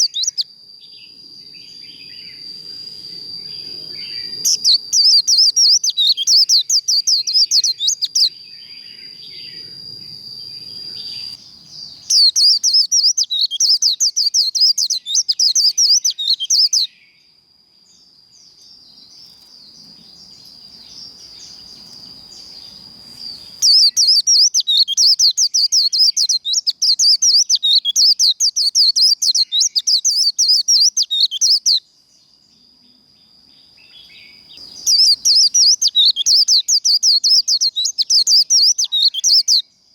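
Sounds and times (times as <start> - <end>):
bird warbling song: 0.0 - 2.8, 3.4 - 17.2, 18.4 - 31.8, 33.8 - 39.6.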